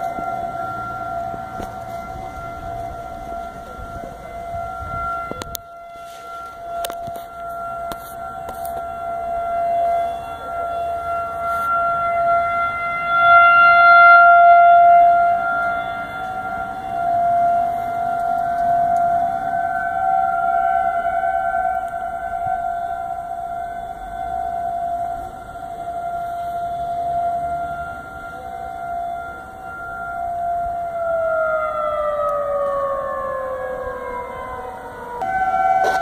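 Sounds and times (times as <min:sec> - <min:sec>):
warning siren steady tone: 0:00.0 - 0:36.0.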